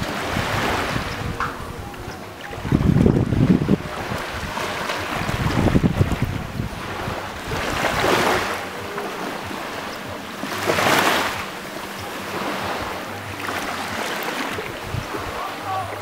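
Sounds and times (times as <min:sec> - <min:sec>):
waves breaking against rocks: 0:00.0 - 0:16.0.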